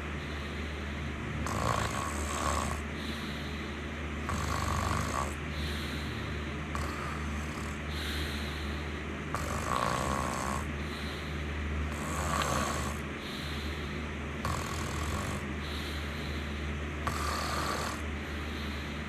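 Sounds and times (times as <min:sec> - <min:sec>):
steady low hum: 0:00.0 - 0:19.0
person snoring: 0:01.2 - 0:03.5, 0:04.2 - 0:11.3, 0:11.9 - 0:18.9.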